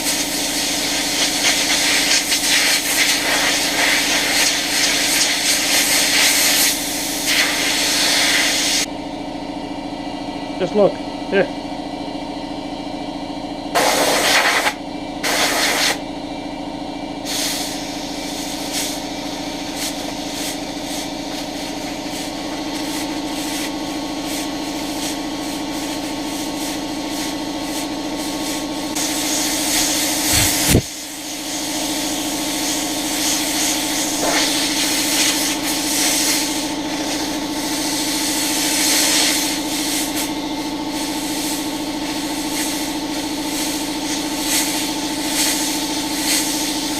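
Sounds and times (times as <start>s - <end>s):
compressed air hissing: 0.0s - 8.9s, 13.8s - 16.0s, 17.2s - 46.9s
steady motor hum: 0.0s - 46.9s.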